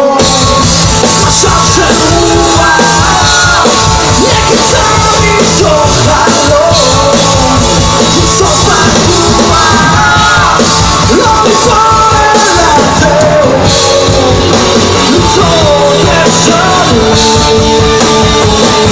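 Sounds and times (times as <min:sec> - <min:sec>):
drum kit: 0:00.0 - 0:18.9
electric guitar: 0:00.0 - 0:18.9.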